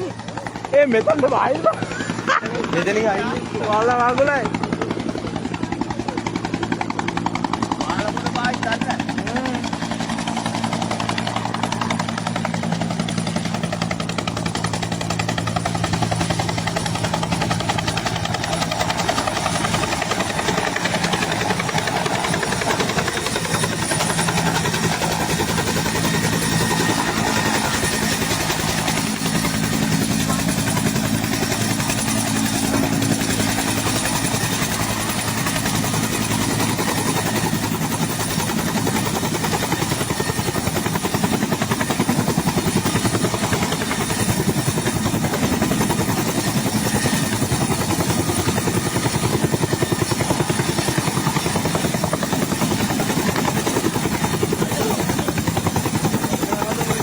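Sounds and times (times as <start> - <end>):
helicopter engine hum: 0.0 - 57.0
helicopter rotor chop: 0.0 - 57.0.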